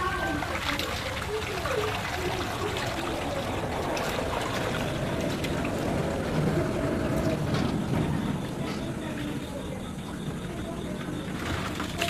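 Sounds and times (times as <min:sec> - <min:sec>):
water splashing on concrete floor: 0:00.0 - 0:12.0.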